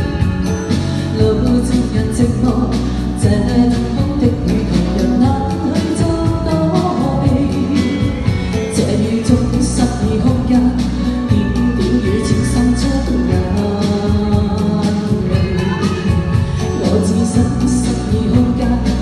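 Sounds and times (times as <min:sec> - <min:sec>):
instrumental backing music: 0:00.0 - 0:19.0
woman singing pop song: 0:00.0 - 0:19.0.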